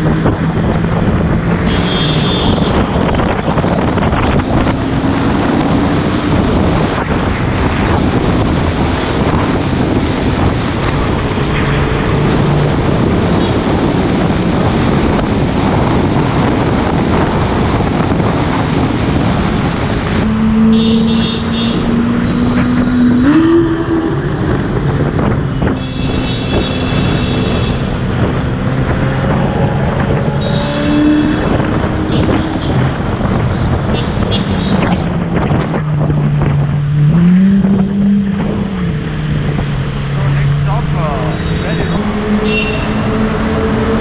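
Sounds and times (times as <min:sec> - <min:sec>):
road and engine noise: 0:00.0 - 0:44.0
wind buffeting microphone: 0:00.0 - 0:44.0.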